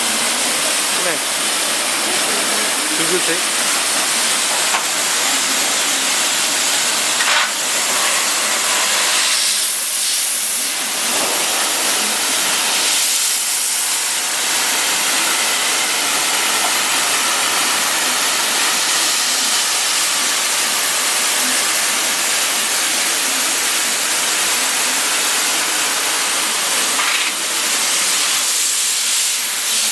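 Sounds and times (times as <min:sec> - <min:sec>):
dishwasher water jets hissing: 0:00.0 - 0:29.9.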